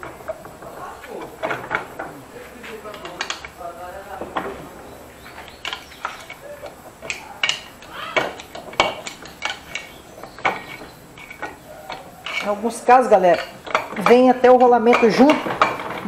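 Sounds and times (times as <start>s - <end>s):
screwdrivers clinking on metal: 0.0s - 16.0s.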